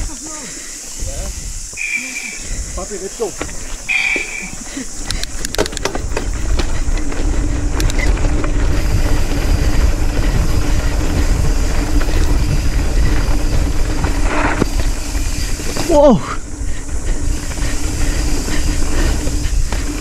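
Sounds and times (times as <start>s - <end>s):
wind buffeting the microphone: 0.0s - 20.0s
bike rattling and knocking: 1.8s - 20.0s
tyres rumbling over dirt: 1.8s - 20.0s.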